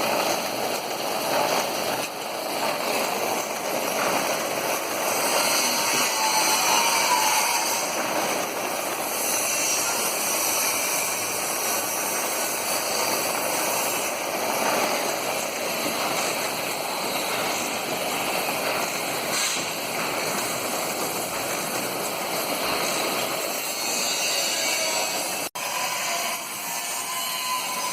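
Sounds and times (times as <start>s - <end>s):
air compressor running: 0.0s - 25.8s.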